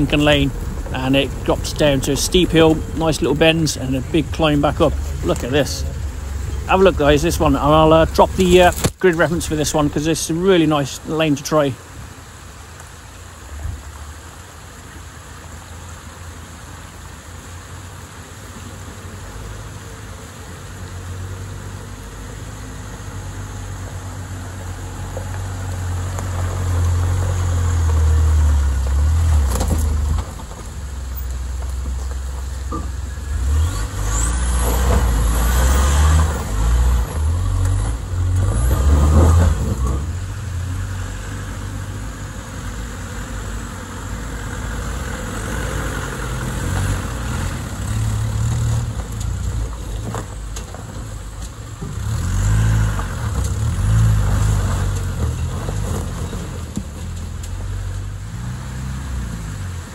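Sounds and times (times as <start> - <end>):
off-road vehicle engine rumbling: 0.0 - 59.9.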